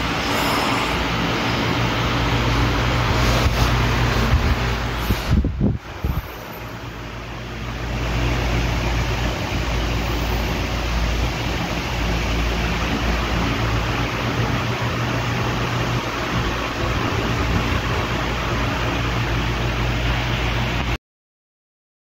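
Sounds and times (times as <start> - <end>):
air cooler fan whooshing: 0.0 - 21.0.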